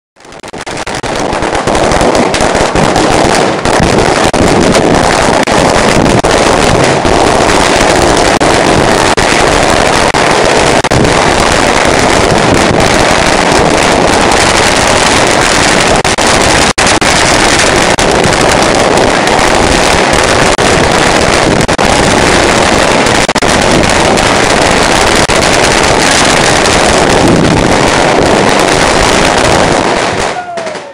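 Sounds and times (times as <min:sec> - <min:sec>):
firecrackers crackling: 0:00.2 - 0:30.9.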